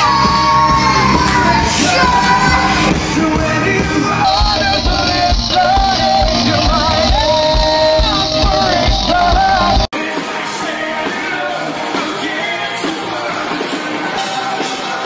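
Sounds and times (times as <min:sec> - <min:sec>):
rock song with vocals: 0:00.0 - 0:15.0
steady drum beat: 0:00.0 - 0:15.0.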